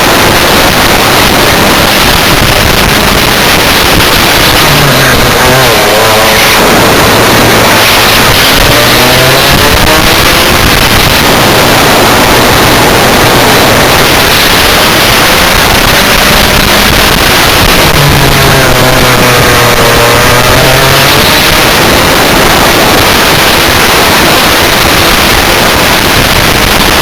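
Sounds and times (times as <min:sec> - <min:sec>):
kart engine revving: 0:00.0 - 0:27.0
rush of noise: 0:00.0 - 0:27.0.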